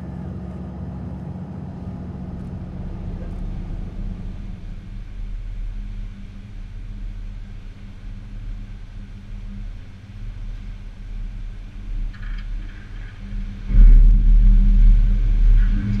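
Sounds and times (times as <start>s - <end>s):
boat engine drone underwater: 0.0s - 16.0s
faint crackle: 0.0s - 16.0s.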